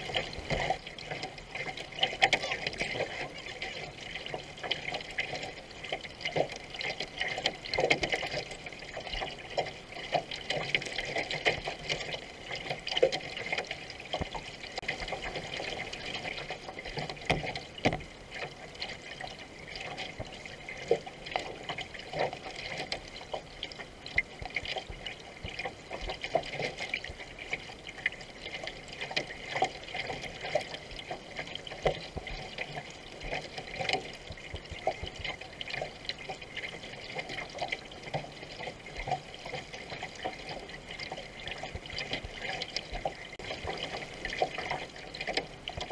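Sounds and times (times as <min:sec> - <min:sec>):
small irregular splashes: 0:00.0 - 0:45.9
water gurgling along canoe hull: 0:00.0 - 0:45.9.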